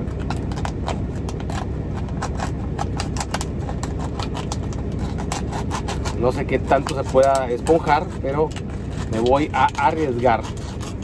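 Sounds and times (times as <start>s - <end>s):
plastic cup crinkling: 0.0s - 11.0s
steady low rumble: 0.0s - 11.0s.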